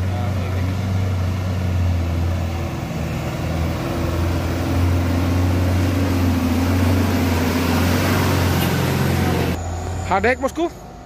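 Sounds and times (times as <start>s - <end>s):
diesel truck driving past: 0.0s - 11.0s.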